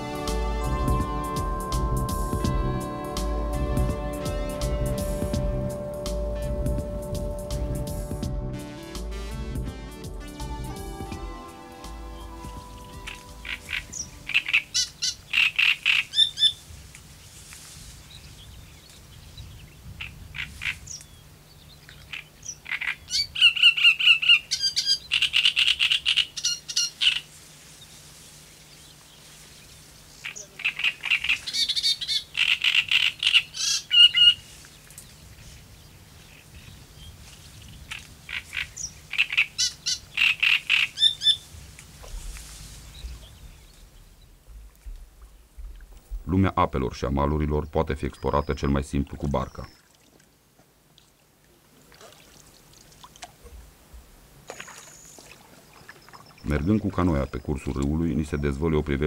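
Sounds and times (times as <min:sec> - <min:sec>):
songbird singing: 0:00.0 - 0:08.9, 0:10.2 - 0:17.4, 0:18.0 - 0:49.9, 0:53.4 - 0:59.0.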